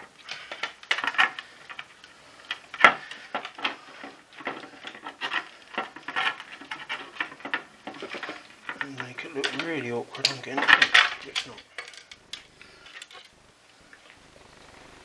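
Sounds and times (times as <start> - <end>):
plastic parts clicking and knocking: 0.0 - 13.3.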